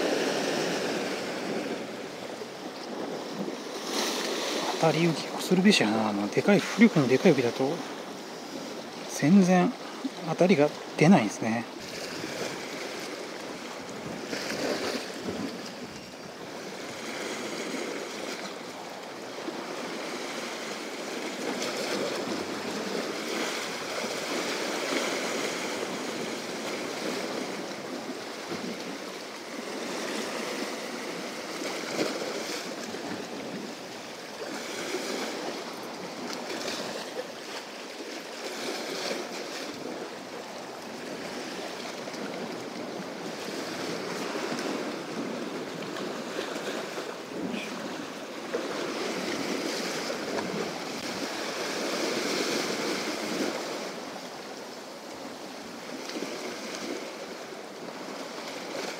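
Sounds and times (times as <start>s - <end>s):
waves washing against rocky shore: 0.0s - 58.9s.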